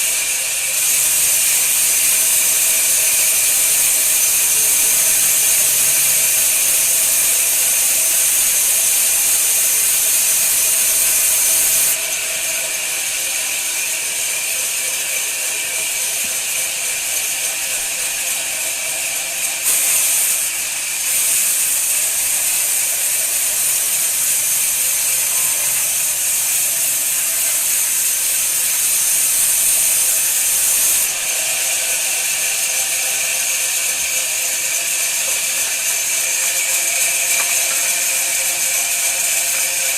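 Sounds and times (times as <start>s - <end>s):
woodworking machine cutting wood: 0.0s - 39.9s.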